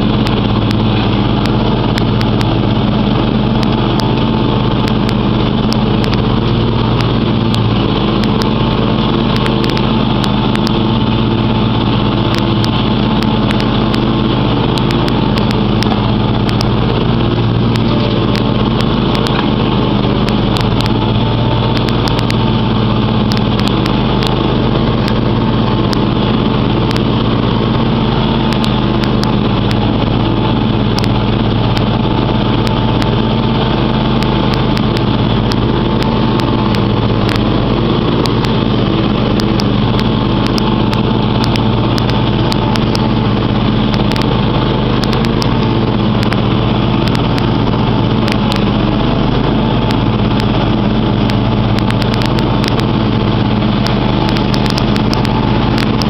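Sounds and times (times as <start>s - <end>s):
lawn tractor engine running: 0.0s - 56.0s.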